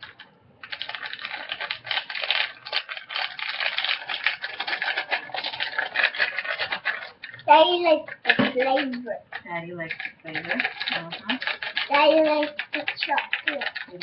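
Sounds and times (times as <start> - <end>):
powder packet crinkling and tapping: 0.0 - 14.0.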